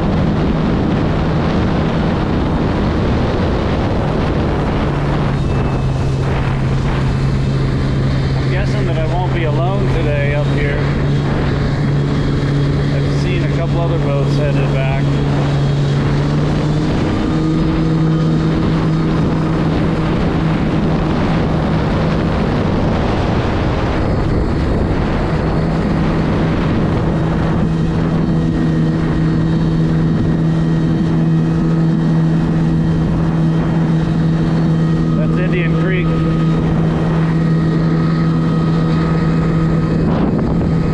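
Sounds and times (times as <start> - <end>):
jet ski engine drone: 0.0 - 40.9
wind and water rushing: 0.0 - 40.9.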